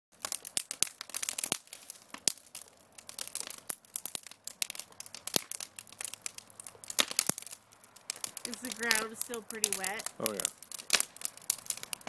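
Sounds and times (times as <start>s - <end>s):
fire crackling in metal barrel: 0.1s - 12.0s.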